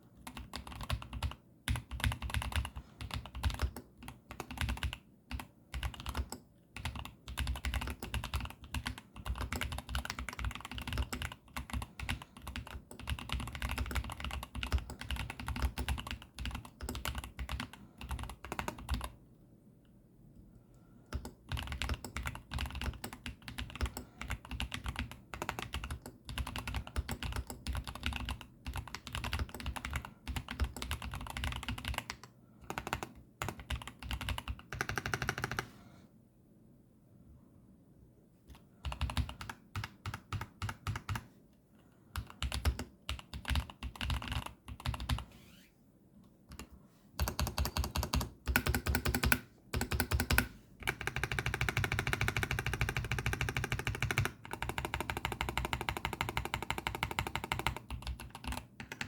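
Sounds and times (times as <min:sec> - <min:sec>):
mechanical keyboard typing: 0:00.2 - 0:19.2, 0:21.1 - 0:35.7, 0:38.5 - 0:41.3, 0:42.1 - 0:45.3, 0:46.5 - 0:59.0.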